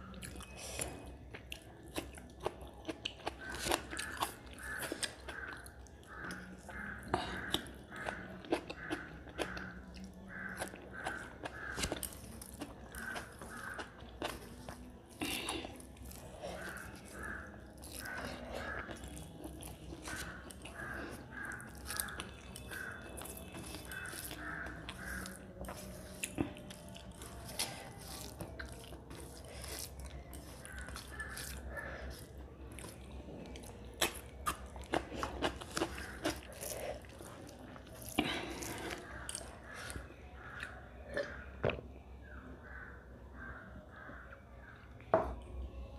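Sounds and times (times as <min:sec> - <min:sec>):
wet chewing and lip smacking: 0:00.0 - 0:41.5.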